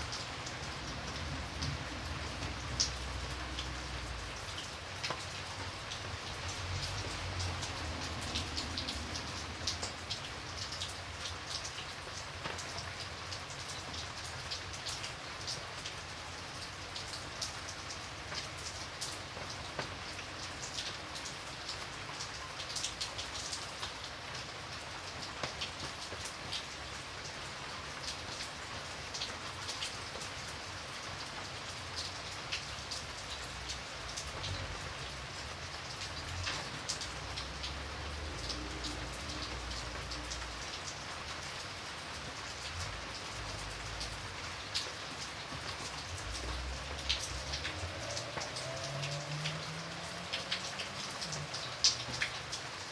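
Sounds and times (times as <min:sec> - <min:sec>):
light rain falling: 0:00.0 - 0:52.9.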